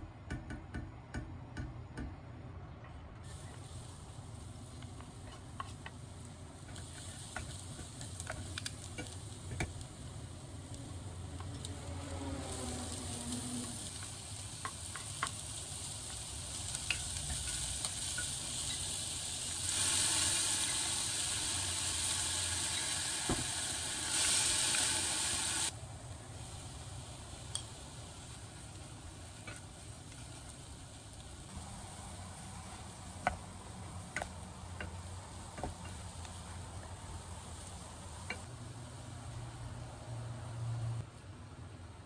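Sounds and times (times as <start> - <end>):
onion and garlic sizzling: 3.2 - 40.6
sauce sizzling in hot pan: 3.3 - 38.5.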